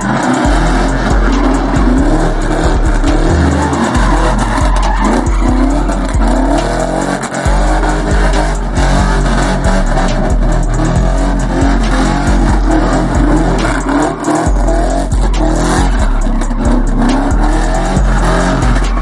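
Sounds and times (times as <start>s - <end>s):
car engine revving: 0.0s - 19.0s
hip-hop music with deep bass: 0.0s - 19.0s
tyres screeching: 0.0s - 19.0s.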